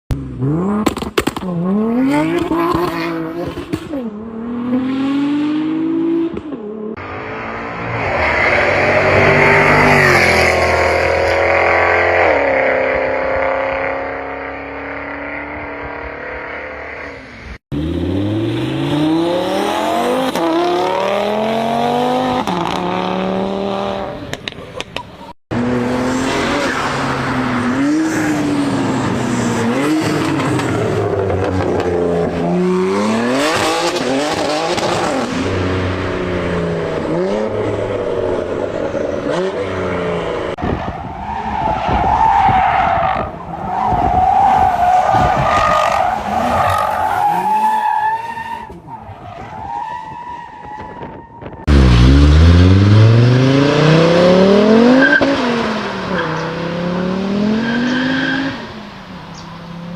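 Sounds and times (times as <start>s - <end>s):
car engines revving: 0.1s - 59.9s.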